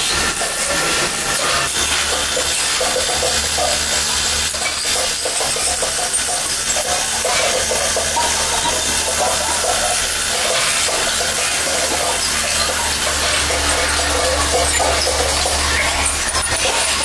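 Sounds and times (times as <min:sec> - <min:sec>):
lathe motor hum: 0:00.0 - 0:17.0.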